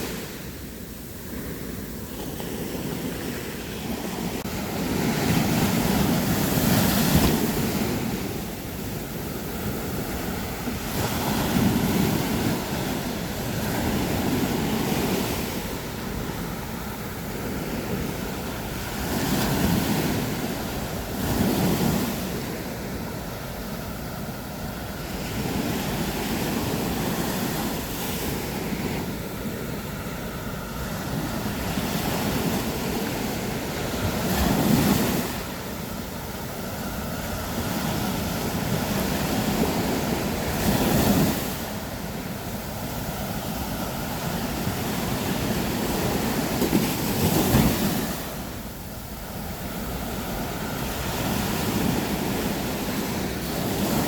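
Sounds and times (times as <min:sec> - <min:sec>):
surf washing on a beach: 0:00.0 - 0:54.0
waves crashing: 0:00.0 - 0:54.0.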